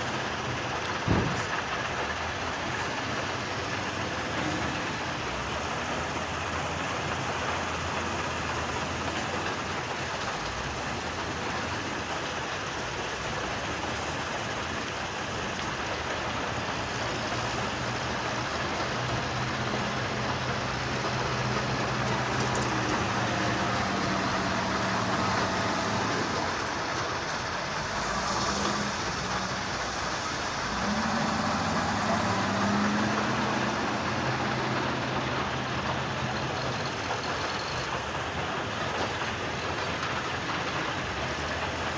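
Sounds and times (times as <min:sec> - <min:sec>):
heavy construction machinery rumble: 0:00.0 - 0:41.9.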